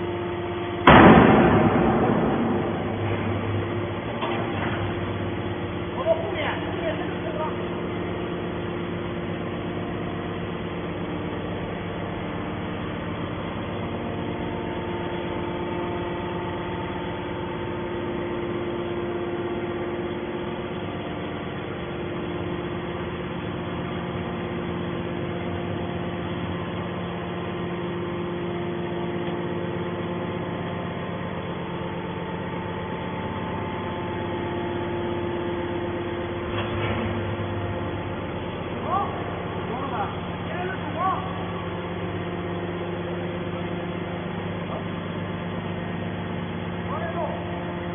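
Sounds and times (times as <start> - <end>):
baler machinery humming: 0.0 - 47.9.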